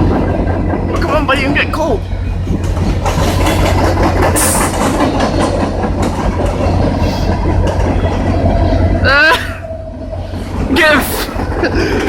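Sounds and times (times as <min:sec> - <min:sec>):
steel wheels rumbling on rails: 0:00.0 - 0:12.0
wheels clattering over rail joints: 0:00.0 - 0:12.0.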